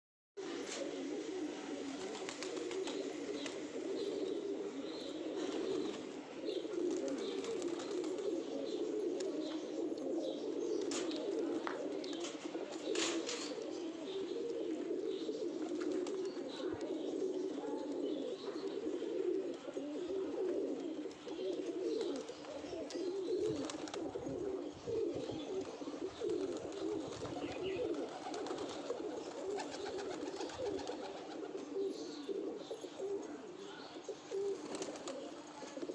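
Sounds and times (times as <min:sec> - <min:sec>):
pigeons cooing: 0:00.4 - 0:35.9.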